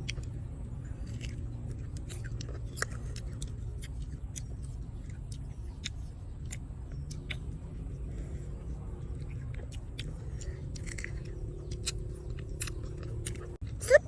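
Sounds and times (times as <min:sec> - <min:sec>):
chewing with mouth smacks: 0:00.0 - 0:14.0
steady low hum: 0:00.0 - 0:14.0.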